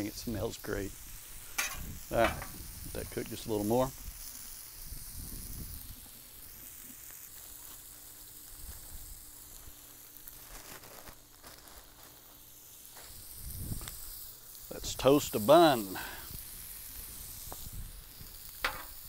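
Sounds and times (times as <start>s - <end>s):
food sizzling on griddle: 0.0s - 19.0s.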